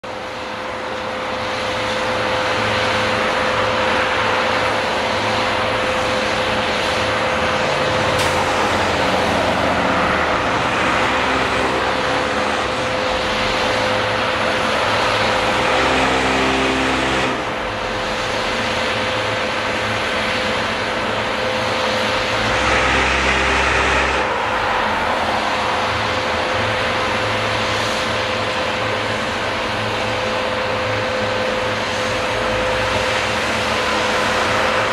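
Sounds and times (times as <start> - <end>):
diesel truck engine running: 1.9 - 34.9.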